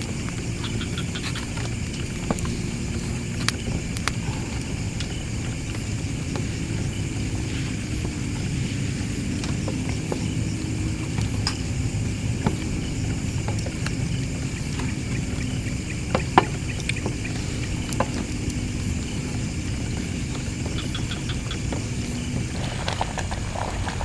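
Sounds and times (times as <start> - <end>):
gas stove burning: 0.0 - 24.0.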